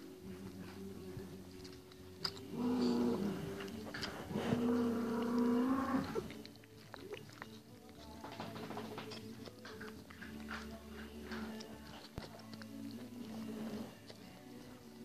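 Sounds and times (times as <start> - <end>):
puppy suckling and chewing: 0.0 - 15.0.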